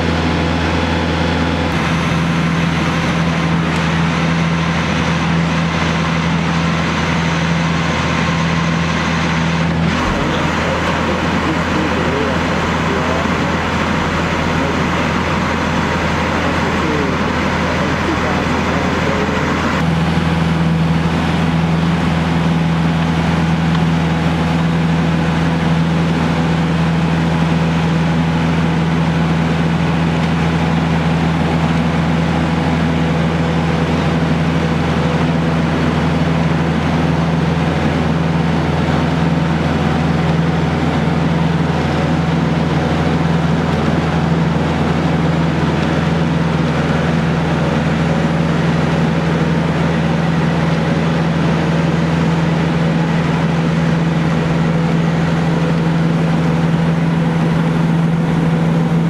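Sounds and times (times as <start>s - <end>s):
tractor engine hum: 0.0s - 59.0s.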